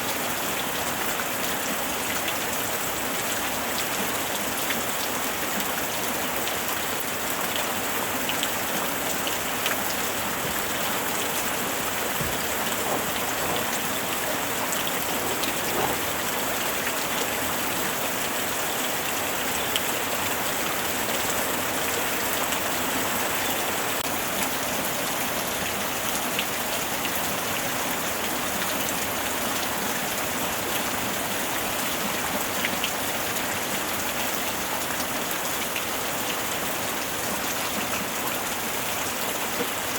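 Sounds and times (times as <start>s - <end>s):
steady rain hiss: 0.0s - 39.9s
raindrops pattering: 0.1s - 39.9s.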